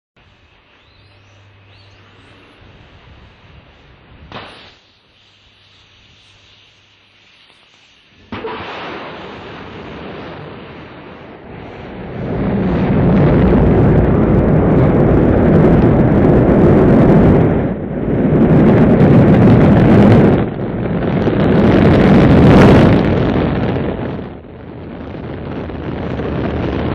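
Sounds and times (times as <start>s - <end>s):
rocket launch rumble: 2.3s - 4.9s, 5.5s - 26.9s.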